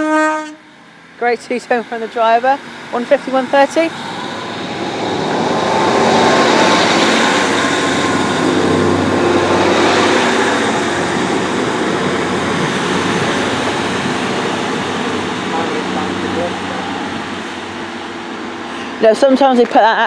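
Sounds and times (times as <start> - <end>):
diesel train engines: 0.0 - 20.0
train wheels on rails: 0.8 - 20.0.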